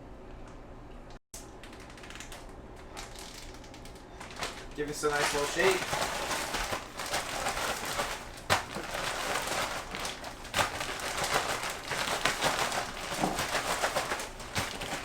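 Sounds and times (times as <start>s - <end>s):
plastic bag crinkling: 1.4s - 15.0s.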